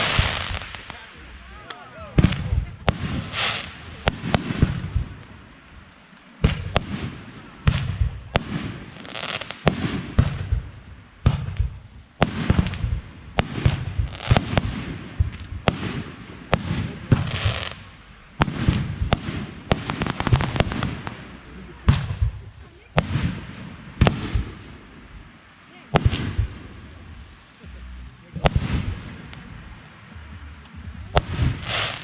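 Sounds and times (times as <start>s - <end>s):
fireworks bursting: 0.0s - 32.0s.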